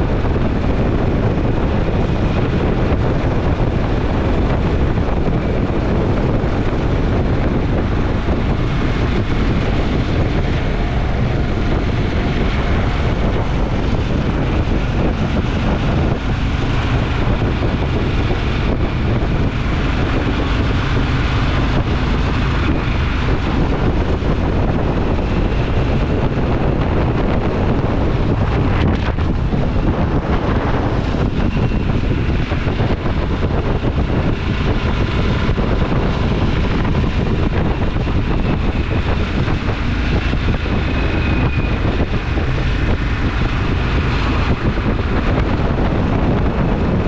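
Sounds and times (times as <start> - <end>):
motorcycle engine and exhaust: 0.0 - 47.0
wind rush buffeting microphone: 0.0 - 47.0.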